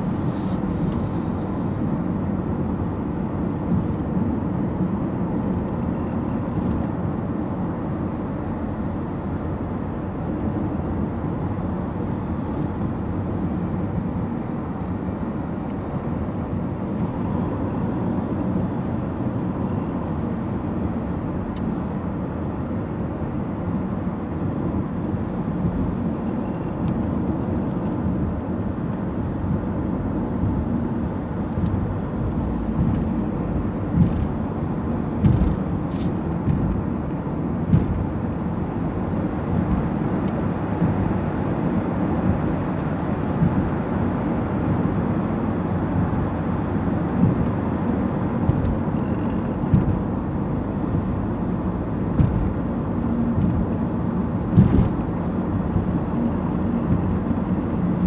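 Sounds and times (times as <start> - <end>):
car tyre and engine rumble: 0.0 - 58.0.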